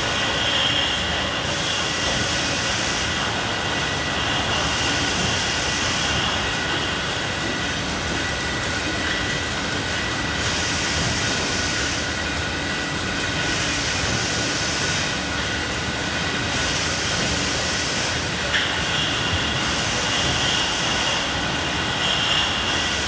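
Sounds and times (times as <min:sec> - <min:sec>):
machinery hiss: 0:00.0 - 0:23.0
machinery whine: 0:00.0 - 0:23.0.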